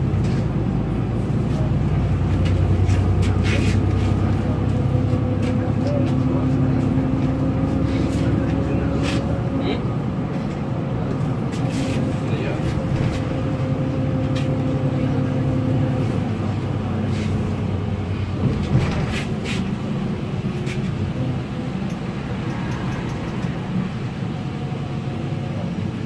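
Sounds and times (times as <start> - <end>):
bus engine drone: 0.0 - 26.0
road noise: 0.0 - 26.0.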